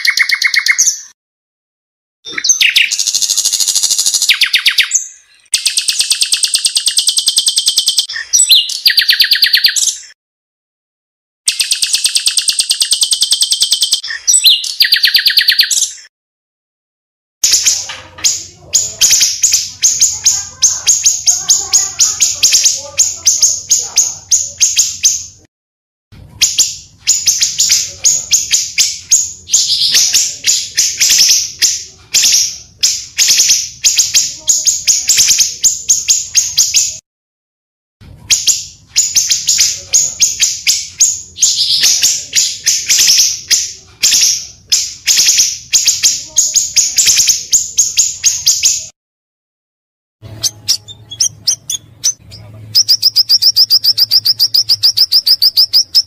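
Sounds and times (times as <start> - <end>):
bird chirping song: 0.0 - 1.2, 2.3 - 10.2, 11.5 - 16.1, 17.4 - 25.5, 26.3 - 37.0, 38.3 - 48.9, 50.2 - 56.0.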